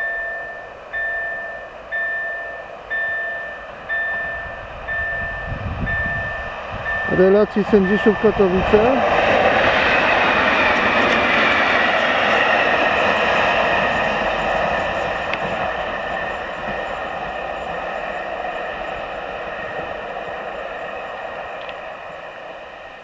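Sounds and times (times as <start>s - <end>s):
high-pitched train whine: 0.0s - 23.0s
train rolling noise: 0.0s - 23.0s.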